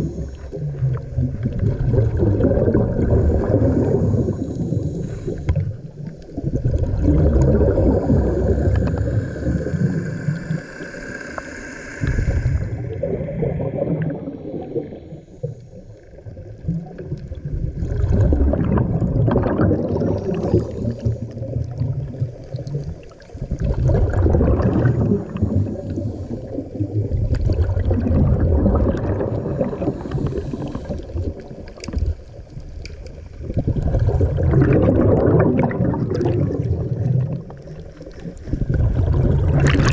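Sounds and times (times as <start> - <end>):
bubbling underwater exhalations: 0.0 - 39.9.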